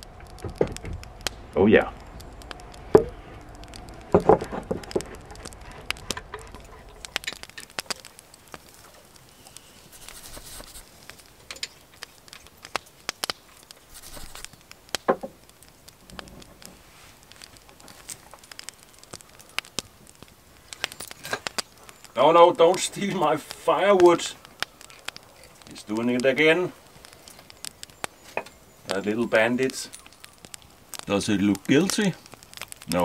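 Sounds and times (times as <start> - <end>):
small objects clicking: 0.0 - 33.0.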